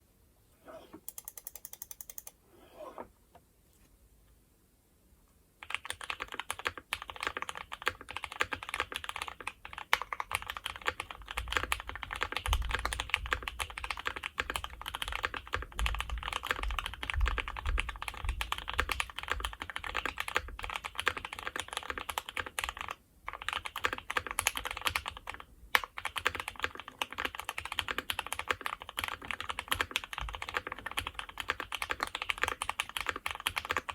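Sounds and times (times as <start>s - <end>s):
fast typing on mechanical keyboard: 1.1s - 2.4s, 5.6s - 33.9s.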